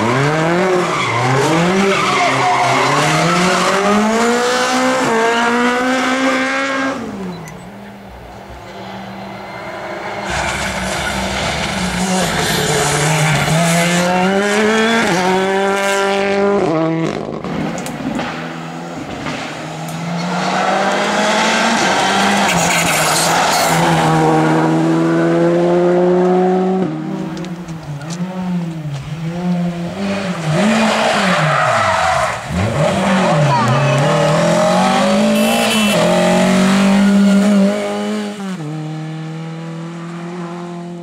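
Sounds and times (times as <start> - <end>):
rally car engine revving: 0.0 - 8.0, 8.8 - 41.0.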